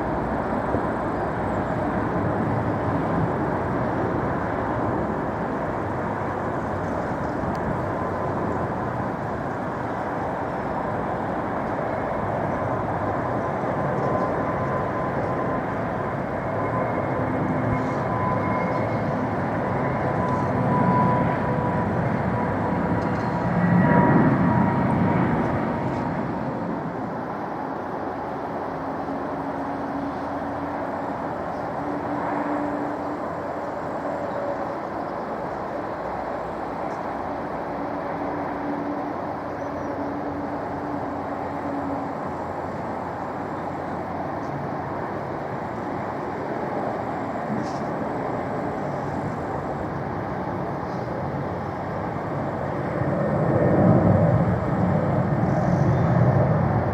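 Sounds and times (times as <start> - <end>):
jet engines running: 0.0 - 56.9.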